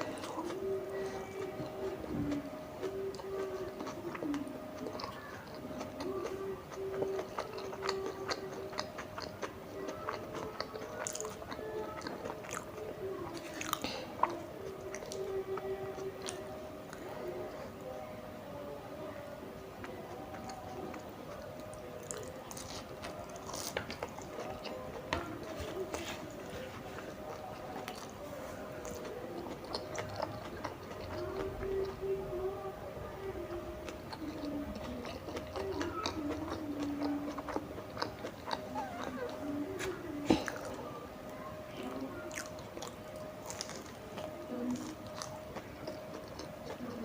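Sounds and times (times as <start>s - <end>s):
chewing and biting food: 0.0s - 17.6s, 19.8s - 32.2s, 33.5s - 41.0s, 41.8s - 47.0s
faint steady hum: 0.0s - 47.0s.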